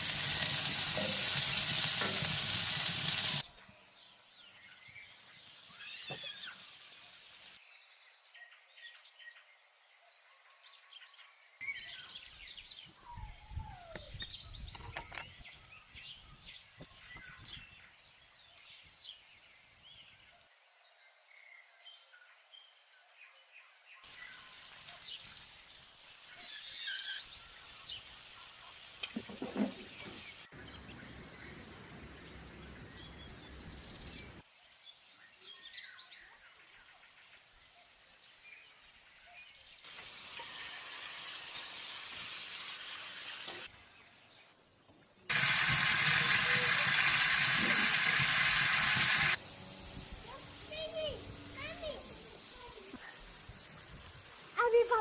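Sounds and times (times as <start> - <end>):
small birds chirping: 0.0 - 9.8, 10.7 - 55.0
outdoor background noise: 0.0 - 55.0.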